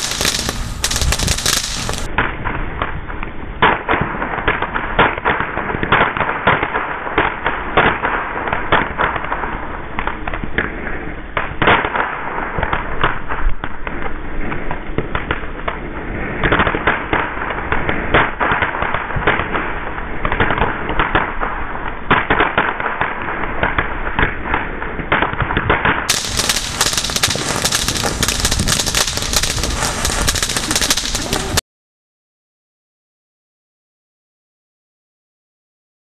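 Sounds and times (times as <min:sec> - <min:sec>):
fireworks fountains crackling: 0:00.0 - 0:03.0, 0:03.6 - 0:31.6.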